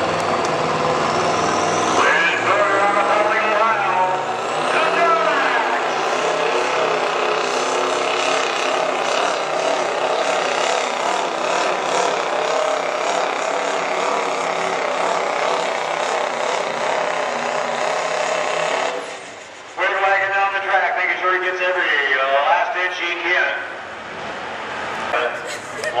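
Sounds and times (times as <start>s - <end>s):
diesel truck engine at full throttle: 0.0s - 21.5s.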